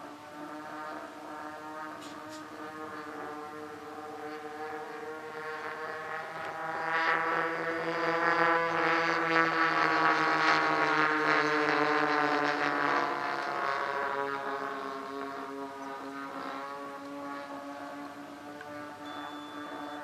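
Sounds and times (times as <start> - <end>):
model plane engines droning: 0.0 - 20.0.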